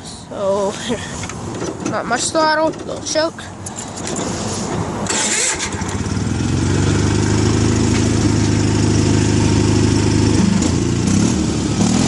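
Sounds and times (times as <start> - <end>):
tractor engine idling: 0.8 - 11.0.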